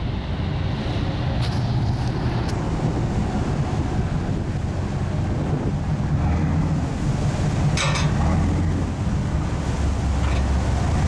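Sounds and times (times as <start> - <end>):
ferry engine rumble: 0.0 - 11.0
wind buffeting microphone: 0.0 - 11.0.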